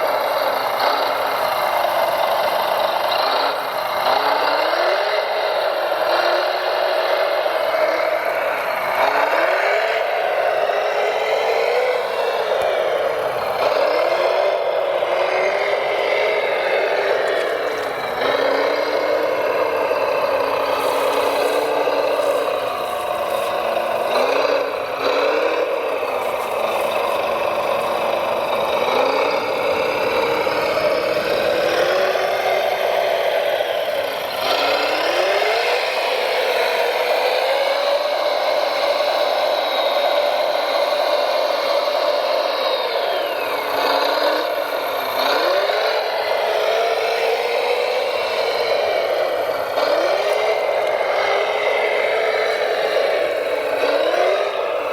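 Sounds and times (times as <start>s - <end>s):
model truck motor whine: 0.0s - 54.9s.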